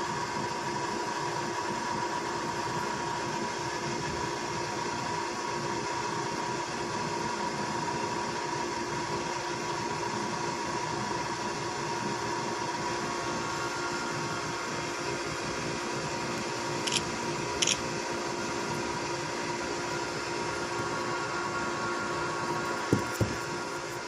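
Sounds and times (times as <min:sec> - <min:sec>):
constant mechanical hum: 0:00.0 - 0:24.0.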